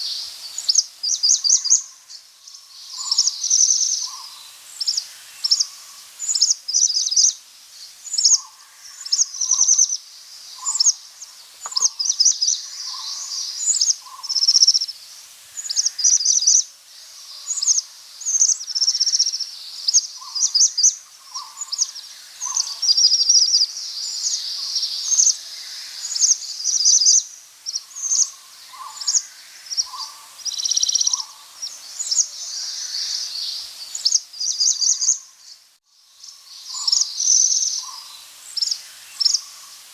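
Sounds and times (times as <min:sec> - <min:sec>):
sparrow chirping: 0:00.0 - 0:07.4, 0:08.0 - 0:10.0, 0:10.6 - 0:14.9, 0:15.6 - 0:16.6, 0:17.3 - 0:35.6, 0:36.2 - 0:39.5.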